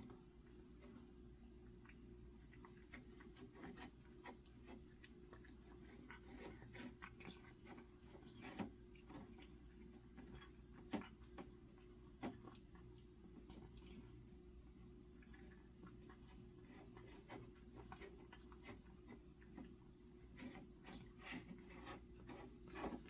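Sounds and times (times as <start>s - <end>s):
cat chewing and clicking: 0.0s - 23.0s.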